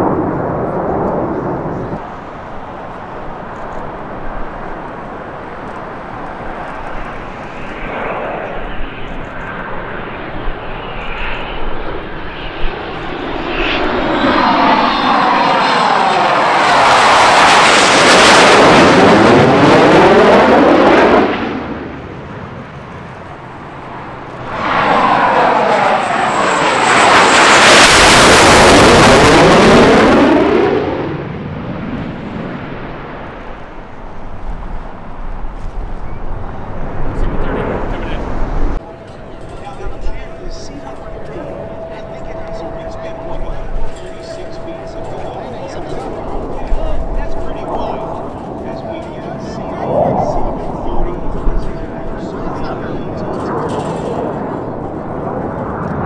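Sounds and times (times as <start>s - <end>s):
jet flying overhead: 0.0s - 56.0s.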